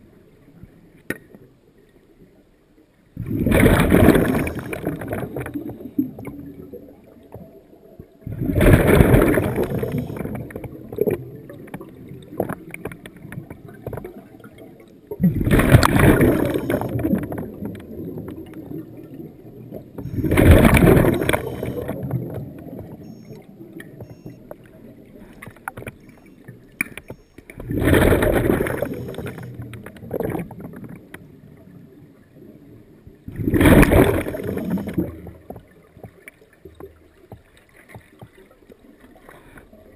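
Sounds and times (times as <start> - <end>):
underwater bubbles rushing: 3.2 - 39.9.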